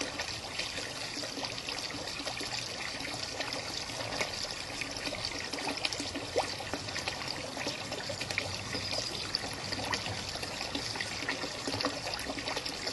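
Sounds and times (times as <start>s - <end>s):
water drips and splashes: 0.0s - 12.9s
water trickling into pond: 0.0s - 12.9s.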